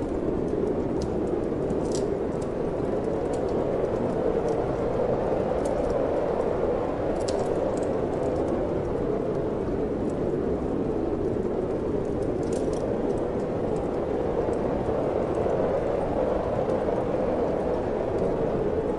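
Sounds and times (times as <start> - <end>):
wind blowing: 0.0 - 18.9
wood fire crackling: 0.0 - 18.9.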